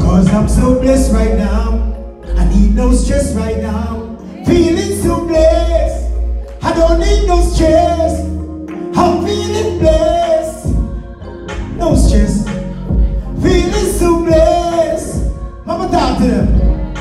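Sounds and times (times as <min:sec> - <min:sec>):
man singing into microphone: 0:00.0 - 0:08.3, 0:08.9 - 0:11.0, 0:11.6 - 0:17.0
reggae backing track: 0:00.0 - 0:17.0.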